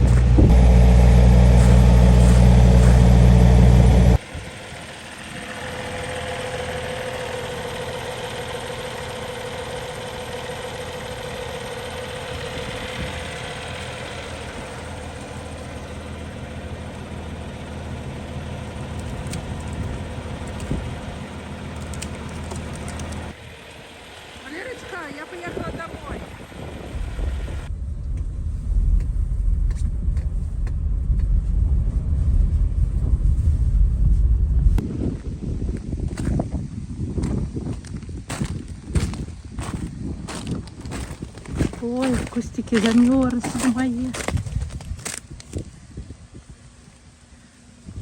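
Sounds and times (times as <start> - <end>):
vehicle engine idling: 0.0 - 34.8, 35.6 - 48.0
quiet engine drone: 0.0 - 37.2, 38.0 - 48.0.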